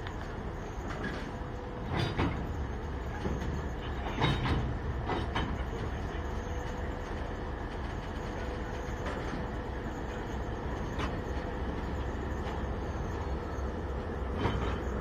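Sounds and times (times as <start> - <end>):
diesel locomotive low rumble: 0.0 - 15.0.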